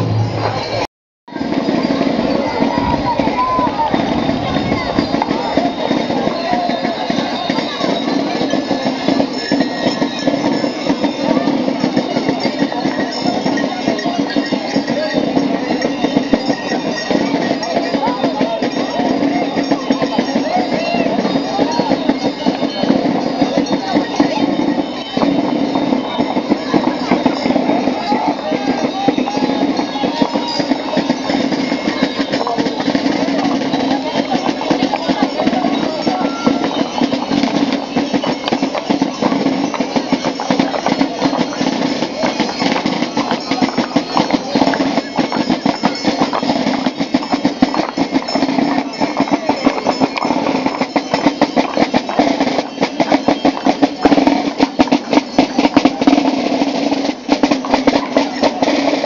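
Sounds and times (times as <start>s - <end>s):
costume bells jingling: 0.0s - 59.0s
street band drums and brass: 0.0s - 59.0s.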